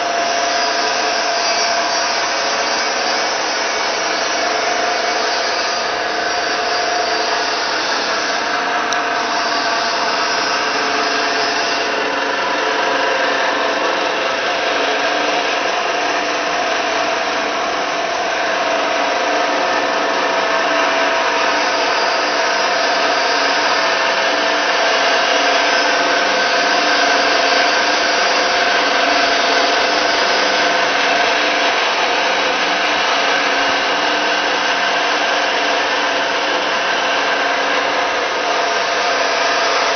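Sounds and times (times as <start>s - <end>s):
electric motor humming: 0.0s - 39.9s.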